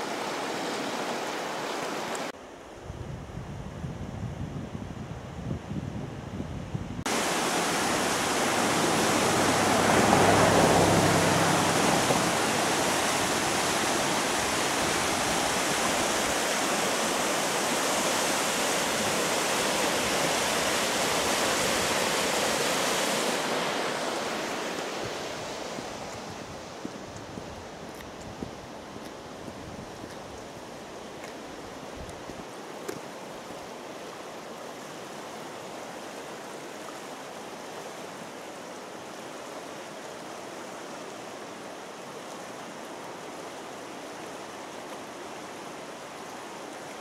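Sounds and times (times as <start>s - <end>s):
river water rushing over rocks: 0.0s - 2.6s, 7.1s - 47.0s.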